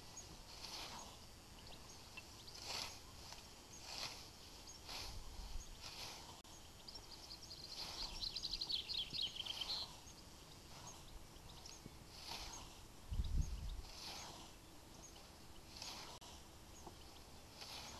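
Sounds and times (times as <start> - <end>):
scythe swishing through grass: 0.0 - 6.5, 7.2 - 17.9
faint bird chirps: 0.0 - 17.9.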